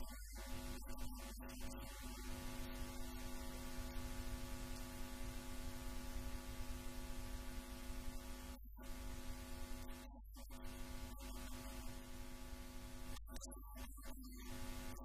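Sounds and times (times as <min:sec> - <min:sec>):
background hiss: 0:00.0 - 0:13.3
electrical mains hum: 0:00.0 - 0:15.0.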